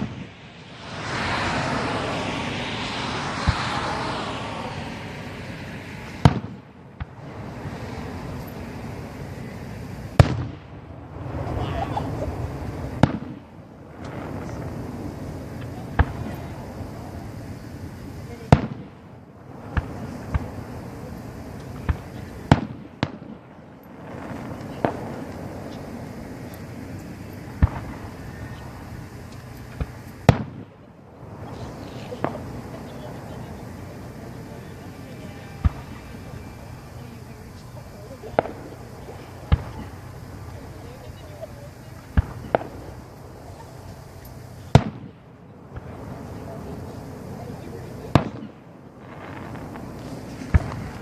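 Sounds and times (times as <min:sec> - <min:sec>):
fireworks bangs: 0:00.0 - 0:51.0
fireworks hissing: 0:00.0 - 0:51.0.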